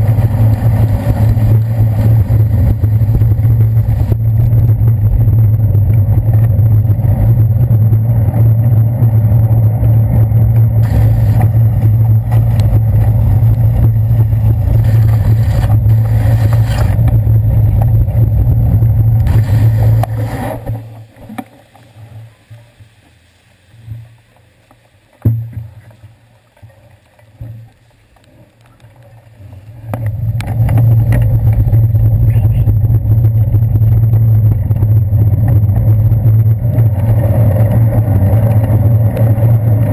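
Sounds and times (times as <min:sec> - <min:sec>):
bicycle road vibration rumble: 0:00.0 - 0:39.9
wind: 0:00.0 - 0:39.9.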